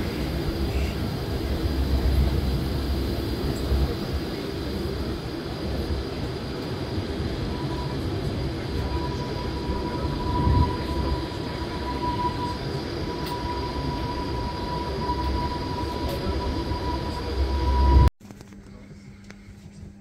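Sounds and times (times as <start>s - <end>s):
railway car rumbling: 0.0s - 18.1s
thin high whine: 0.0s - 18.1s.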